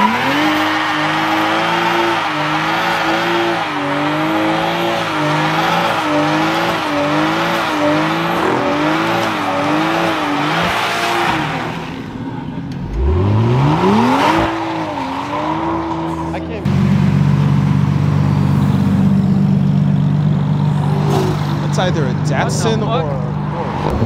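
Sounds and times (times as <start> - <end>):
car engine revving high: 0.0 - 24.0.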